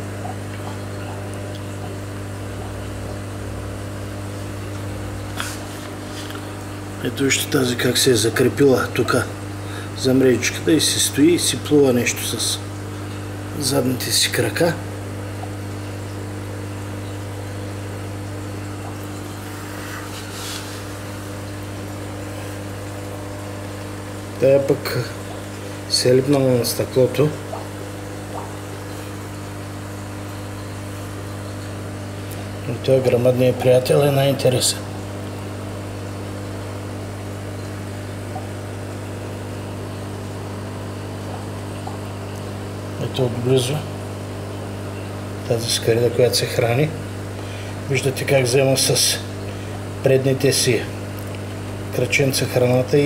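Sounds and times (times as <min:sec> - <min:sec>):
aquarium pump humming: 0:00.0 - 0:53.0.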